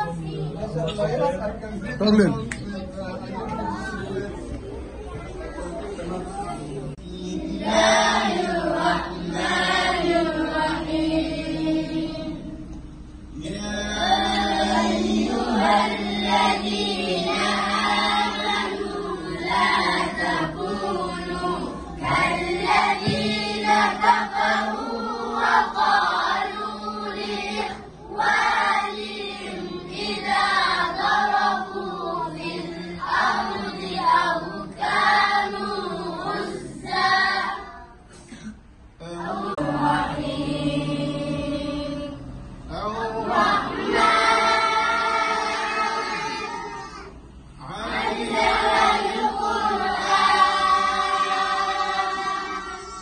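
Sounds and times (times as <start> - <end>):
children chanting in unison: 7.0 - 12.6, 13.4 - 38.0, 39.0 - 53.0.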